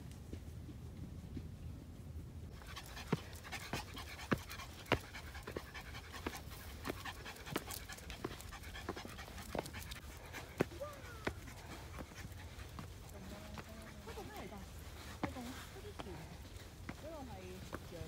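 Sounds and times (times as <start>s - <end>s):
dog panting: 2.5s - 18.0s
footsteps on stone: 2.6s - 18.0s.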